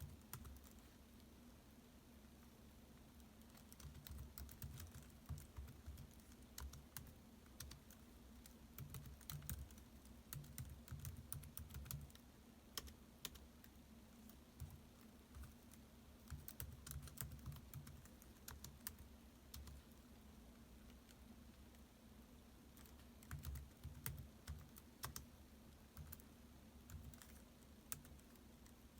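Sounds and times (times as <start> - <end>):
laptop keyboard typing: 0.0 - 0.9, 3.2 - 19.9, 22.7 - 28.9
faint low hum: 0.0 - 28.9.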